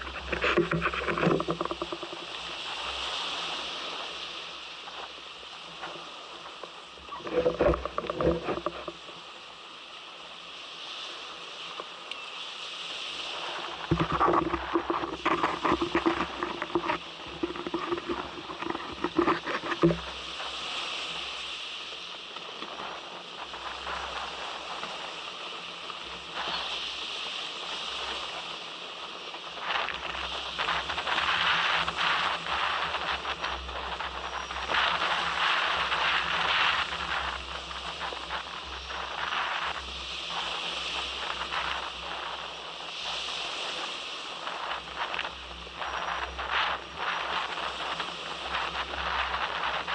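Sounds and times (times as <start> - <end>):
wind buffeting microphone: 0.0 - 9.2, 13.2 - 21.6, 22.6 - 49.9
water rushing along hull: 0.0 - 49.9.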